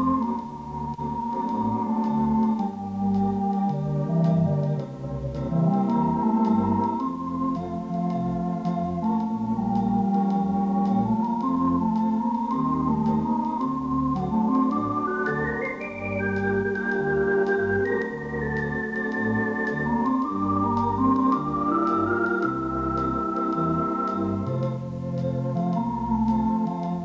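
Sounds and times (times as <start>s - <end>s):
instrumental background music: 0.0s - 27.0s.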